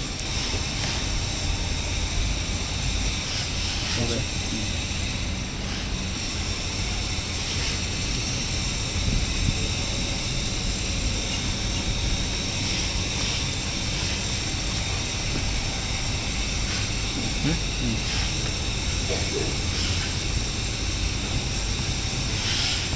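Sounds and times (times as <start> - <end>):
hiss: 0.0 - 22.9
low machinery rumble: 0.0 - 22.9.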